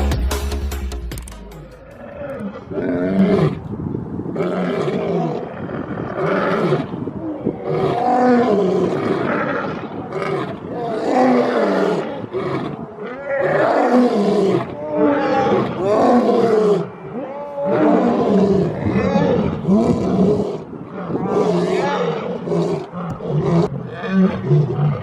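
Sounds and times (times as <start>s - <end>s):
lion roaring: 1.6s - 3.7s, 4.3s - 25.0s.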